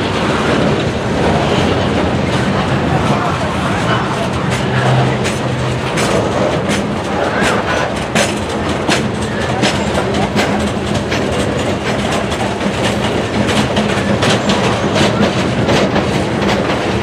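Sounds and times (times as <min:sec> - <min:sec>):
train rolling rumble: 0:00.0 - 0:17.0
wheels clicking over rail joints: 0:00.0 - 0:17.0.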